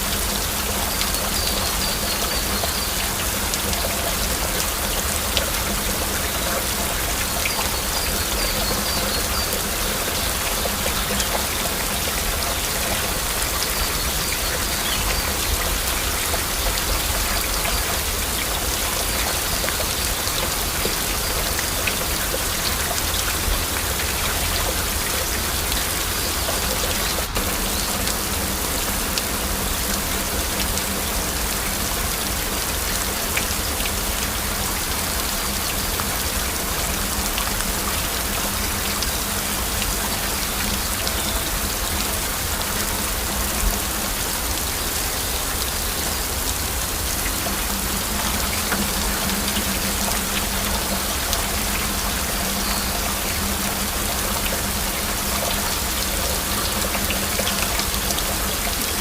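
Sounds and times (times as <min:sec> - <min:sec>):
heavy rain: 0:00.0 - 0:59.0
raindrops ticking: 0:00.0 - 0:59.0.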